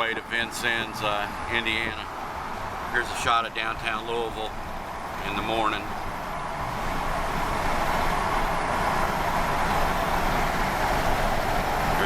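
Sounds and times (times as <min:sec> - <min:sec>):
road and tyre noise: 0:00.0 - 0:12.0.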